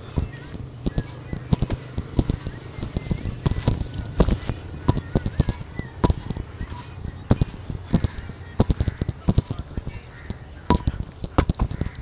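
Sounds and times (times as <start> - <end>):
sharp knocks and thumps: 0.0 - 12.0.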